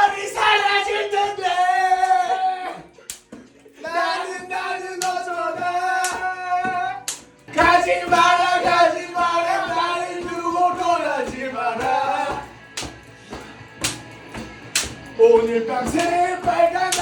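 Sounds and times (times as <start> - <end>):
hand claps: 3.0 - 17.0.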